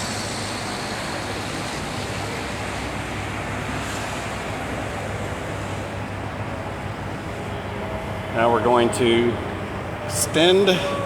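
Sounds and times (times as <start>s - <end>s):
boom lift engine drone: 0.0s - 11.0s.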